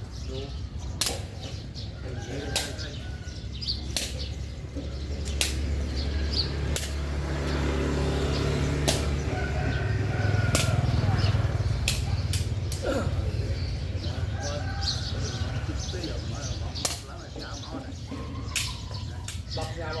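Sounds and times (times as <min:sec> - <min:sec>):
low buffeting rumble: 0:00.0 - 0:20.0.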